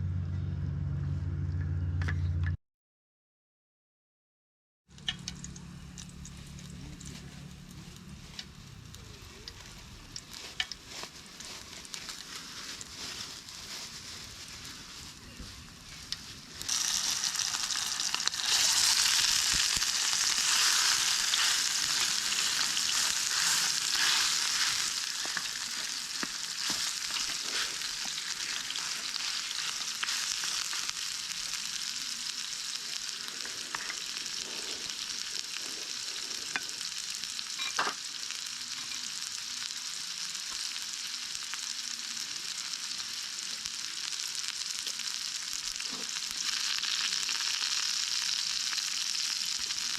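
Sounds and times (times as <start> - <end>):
food sizzling in hot oil: 5.0 - 49.9.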